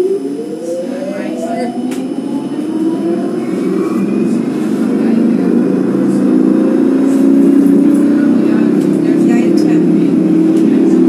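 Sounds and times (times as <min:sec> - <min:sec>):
tram electric drive whine: 0:00.0 - 0:11.0.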